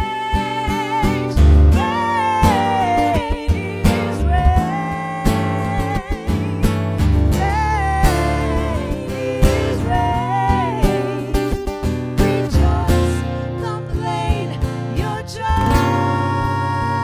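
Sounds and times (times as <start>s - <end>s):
strummed acoustic guitar: 0.0s - 17.0s
women singing: 0.0s - 17.0s.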